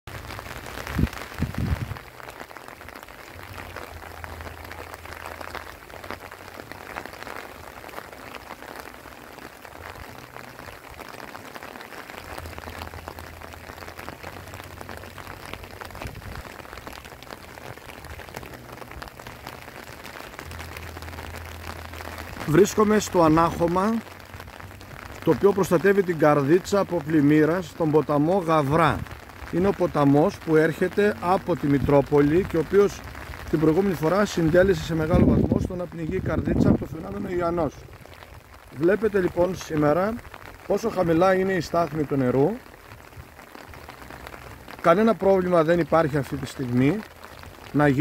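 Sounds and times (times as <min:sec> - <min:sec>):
steady light rain: 0:00.1 - 0:48.0.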